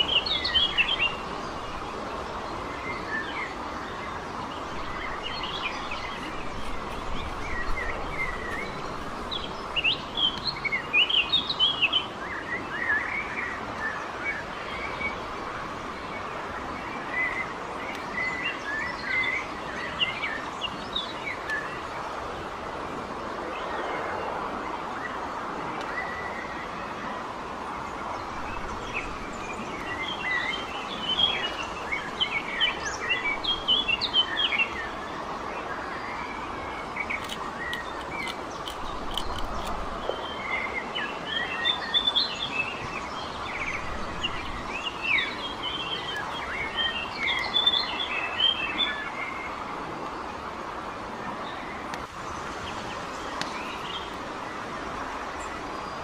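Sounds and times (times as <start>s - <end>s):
songbirds chirping: 0.0s - 56.0s
steady background hiss: 0.0s - 56.0s.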